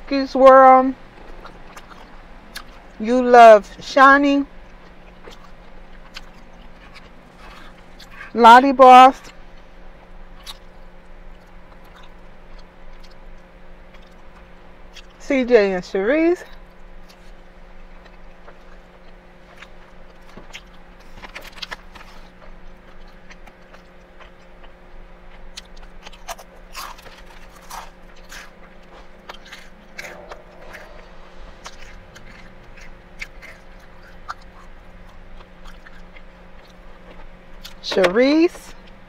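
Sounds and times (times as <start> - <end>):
steady low hum: 0.0 - 39.0
mouth chewing food: 0.7 - 15.2, 16.4 - 39.0.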